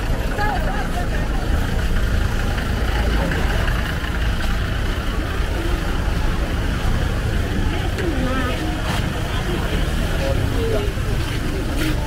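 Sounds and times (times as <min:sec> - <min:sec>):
faint voices talking: 0:00.0 - 0:12.0.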